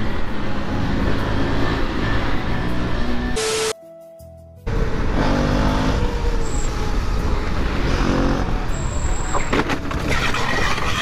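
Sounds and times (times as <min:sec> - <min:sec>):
wind and road noise: 0:00.0 - 0:03.8, 0:04.6 - 0:11.0
surrounding cars and trucks: 0:00.0 - 0:11.0.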